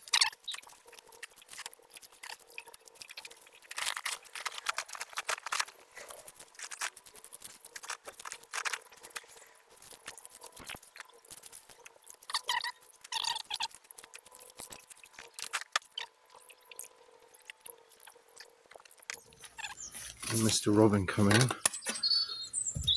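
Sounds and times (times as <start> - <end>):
dry fern fronds rustling and crackling: 0.0 - 16.4, 19.0 - 21.5.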